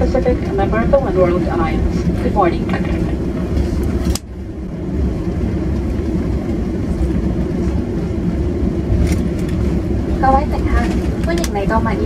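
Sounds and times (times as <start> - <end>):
aircraft cabin rumble while taxiing: 0.0 - 12.0.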